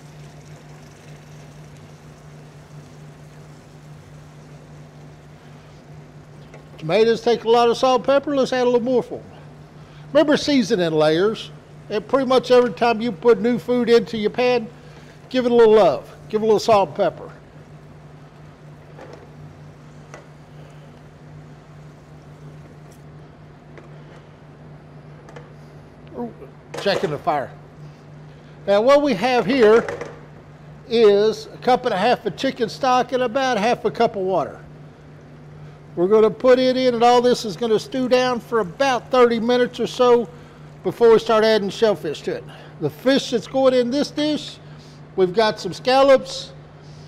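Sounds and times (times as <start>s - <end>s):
low equipment hum: 0.0s - 47.0s.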